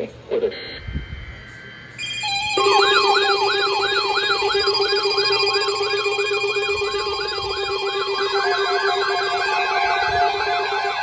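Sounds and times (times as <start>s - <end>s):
siren sweeping up and down: 0.5s - 11.0s
steady electronic alert tones: 0.5s - 11.0s.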